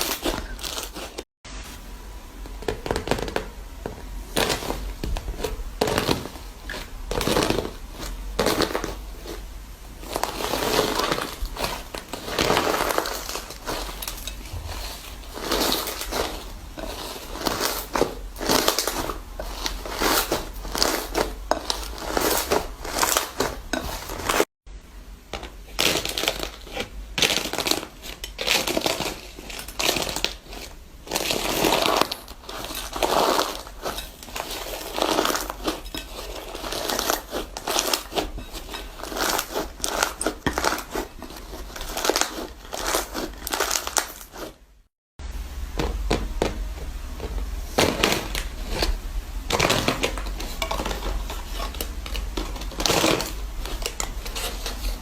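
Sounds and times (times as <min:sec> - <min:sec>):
material crunching and crackling: 0:00.0 - 0:24.5, 0:25.4 - 0:44.9, 0:45.9 - 0:55.0.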